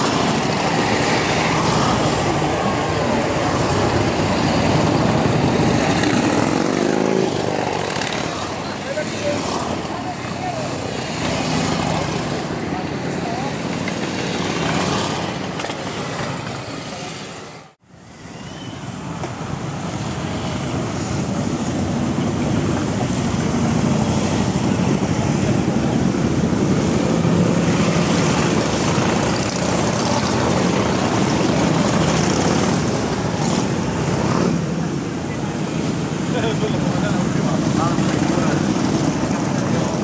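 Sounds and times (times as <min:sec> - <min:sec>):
motorcycles running: 0:00.0 - 0:17.5, 0:18.9 - 0:40.0.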